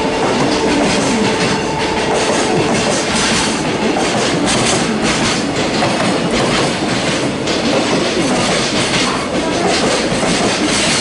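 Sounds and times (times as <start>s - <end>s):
train wheels clattering over rail joints: 0.0s - 11.0s.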